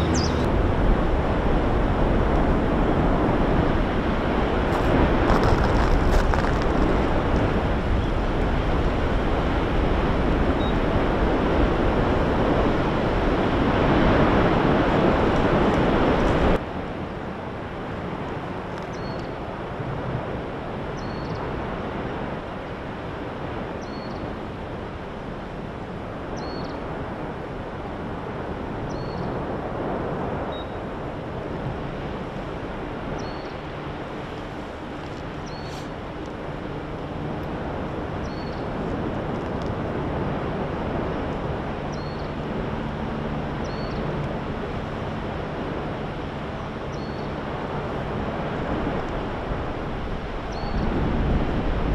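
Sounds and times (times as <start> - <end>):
lava eruption roar: 0.0 - 51.9.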